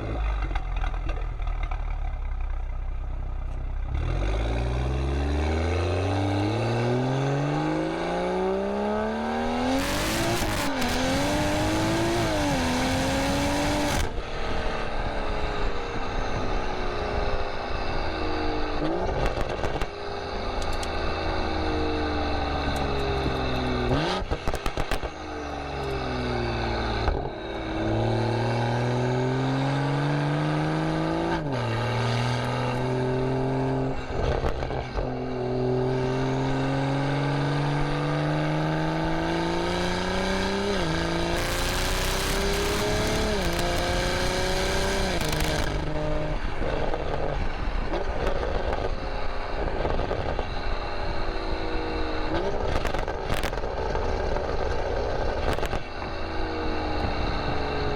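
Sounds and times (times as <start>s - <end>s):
car engine revving: 3.4s - 57.9s.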